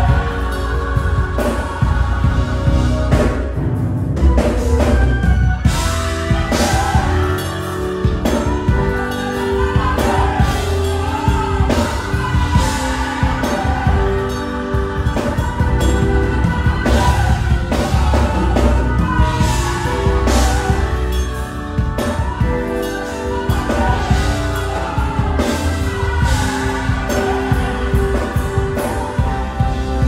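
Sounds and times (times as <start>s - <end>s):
drum kit: 0.0s - 30.0s
gospel choir singing: 0.0s - 30.0s
heavy bass: 0.0s - 30.0s.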